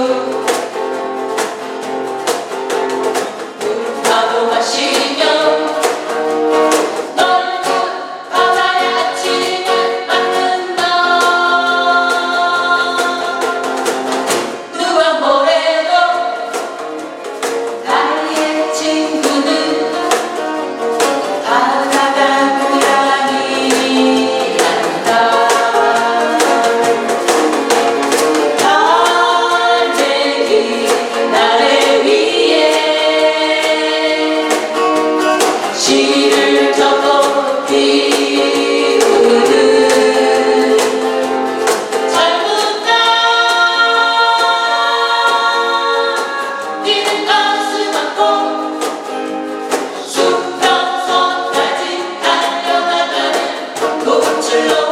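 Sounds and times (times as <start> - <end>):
group of voices singing: 0.0 - 2.5, 3.1 - 54.9
strummed acoustic guitars: 0.0 - 54.9.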